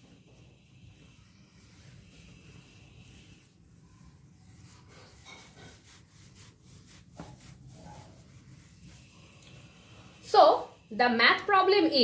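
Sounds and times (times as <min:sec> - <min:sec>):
eraser rubbing whiteboard: 0:00.0 - 0:12.0.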